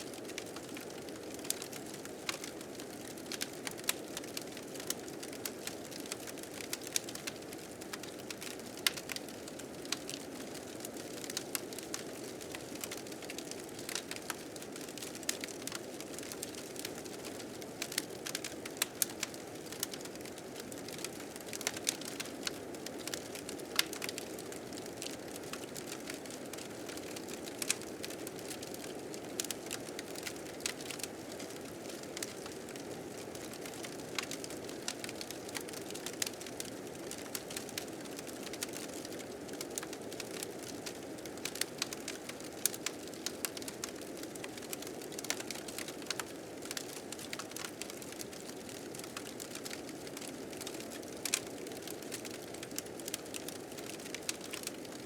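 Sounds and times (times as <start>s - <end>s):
wood fire crackling and popping: 0.1s - 55.0s.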